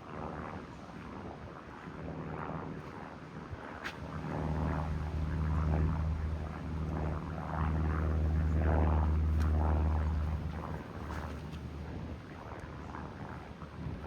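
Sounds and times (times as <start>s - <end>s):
light aircraft engine droning: 0.0s - 14.0s
wind rumbling on microphone: 0.1s - 14.0s.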